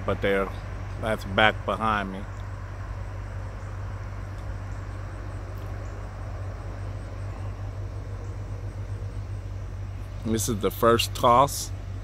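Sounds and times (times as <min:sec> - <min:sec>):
outdoor background noise: 0:00.0 - 0:12.0
steady low hum: 0:00.0 - 0:12.0.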